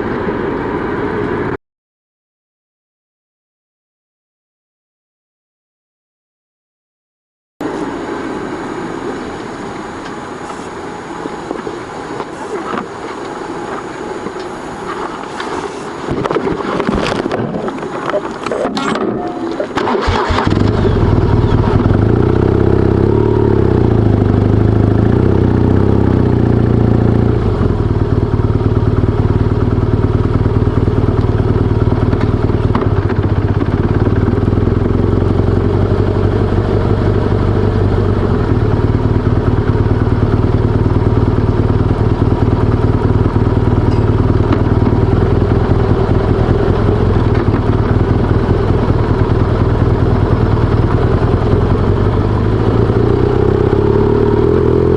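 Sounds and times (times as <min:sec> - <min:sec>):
motorcycle engine running: 0:07.6 - 0:54.9.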